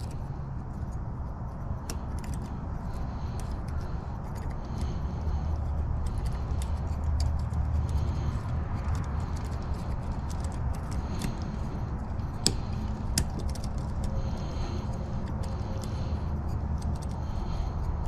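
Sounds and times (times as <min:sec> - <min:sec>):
lock pick clicking and scraping: 0:00.0 - 0:18.0.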